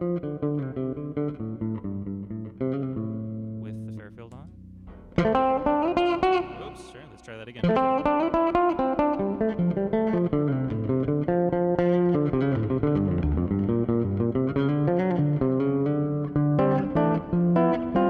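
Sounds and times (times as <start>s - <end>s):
electric bass plucked melody: 0.0s - 18.0s.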